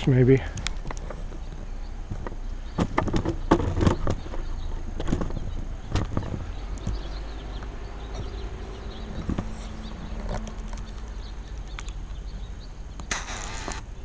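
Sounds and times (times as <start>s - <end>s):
low outdoor rumble: 0.0s - 14.0s
camera handling knocks and rustles: 0.6s - 12.0s.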